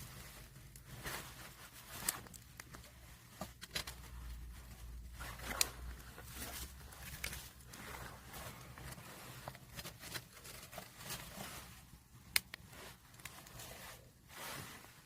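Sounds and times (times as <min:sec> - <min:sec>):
wood fire crackling: 0:00.0 - 0:11.3, 0:12.3 - 0:13.5.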